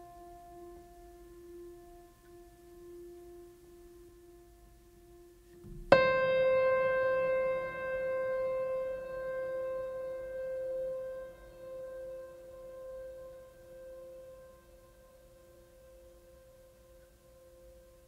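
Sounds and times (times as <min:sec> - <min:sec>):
faint held low tone: 0:00.0 - 0:18.0.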